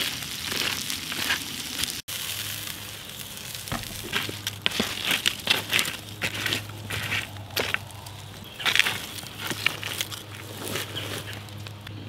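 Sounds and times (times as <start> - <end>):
stick raking through coals: 0.0 - 11.9
campfire crackling and hissing: 0.0 - 12.0.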